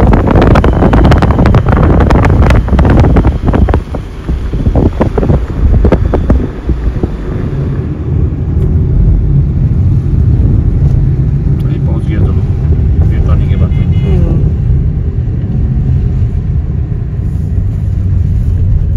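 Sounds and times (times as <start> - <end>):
car driving rumble: 0.0 - 18.9
wind buffeting microphone: 0.0 - 18.9.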